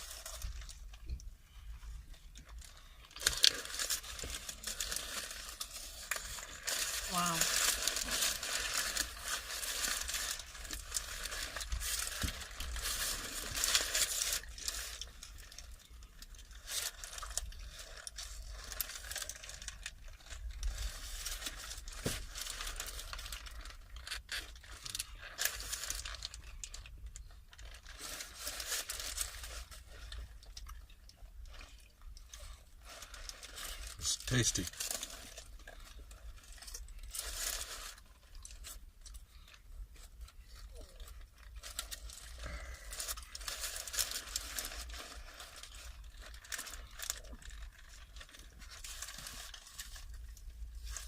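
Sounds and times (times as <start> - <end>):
wrapper crinkling and tearing: 0.0 - 51.0.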